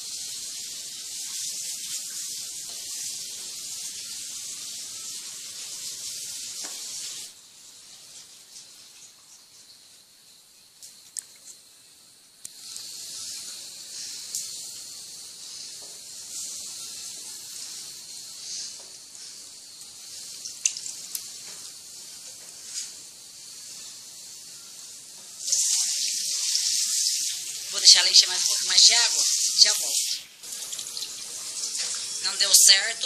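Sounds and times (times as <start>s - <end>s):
water hissing into washing machine: 0.0s - 11.0s, 11.6s - 33.0s.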